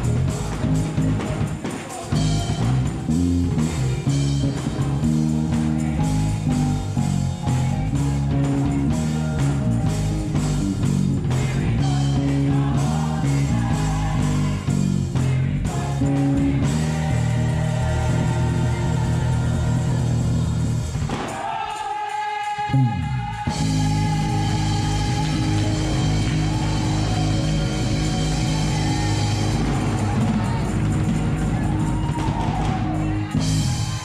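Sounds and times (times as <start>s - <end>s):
electric bass line: 0.0s - 21.1s, 22.8s - 34.0s
gospel song with drums: 0.0s - 34.0s.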